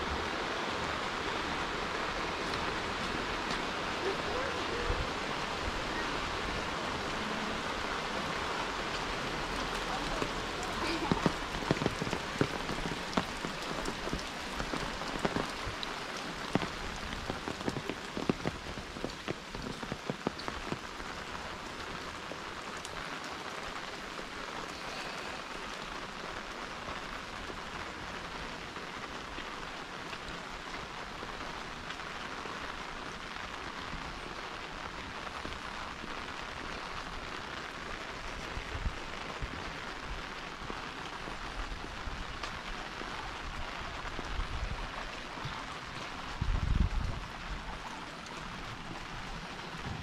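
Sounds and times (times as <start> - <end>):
pouring rain hissing: 0.0 - 50.0
close raindrop strikes: 0.4 - 50.0.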